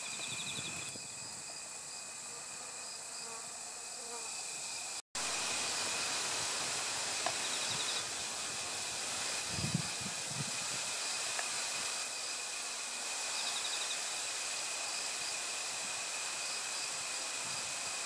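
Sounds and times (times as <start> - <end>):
high-pitched insect drone: 0.0 - 6.2, 7.2 - 8.6, 9.4 - 18.0
even hiss: 0.0 - 18.0.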